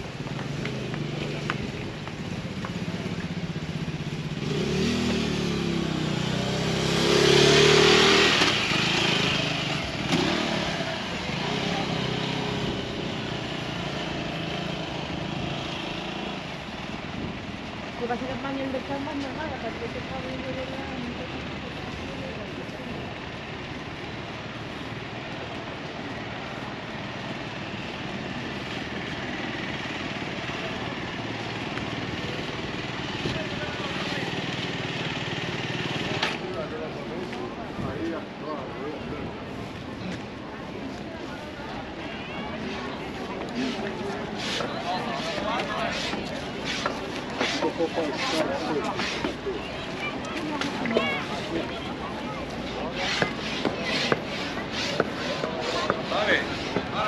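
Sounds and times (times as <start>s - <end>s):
motor scooter passing: 0.0s - 57.0s
street noise: 0.0s - 57.0s.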